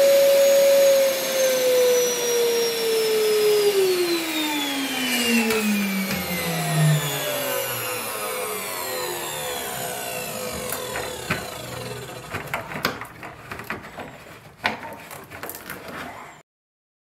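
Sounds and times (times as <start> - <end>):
vacuum cleaner motor winding down: 0.0 - 14.4.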